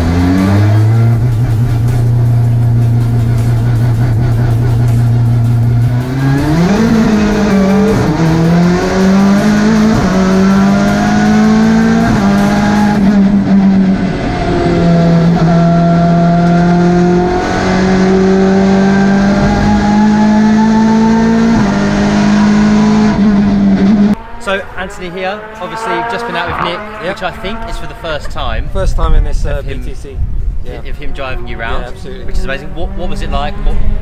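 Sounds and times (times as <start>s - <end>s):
race car engine revving: 0.0s - 28.4s, 31.0s - 34.0s.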